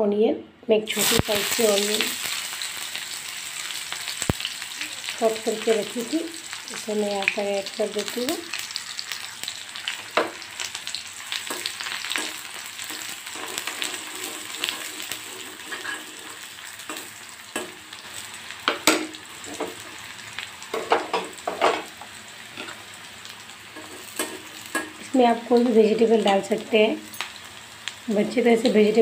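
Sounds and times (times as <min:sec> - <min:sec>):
onion sizzling in oil: 0:00.9 - 0:29.0.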